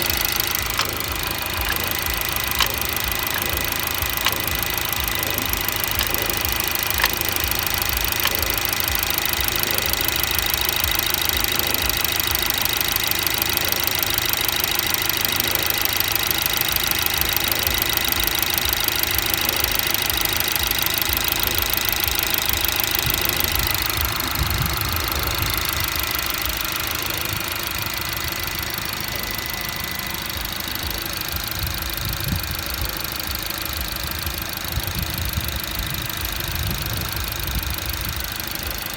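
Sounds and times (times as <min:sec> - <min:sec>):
car engine running: 0:00.0 - 0:38.9
mechanical knocking: 0:00.0 - 0:38.9
sharp click: 0:00.0 - 0:38.9.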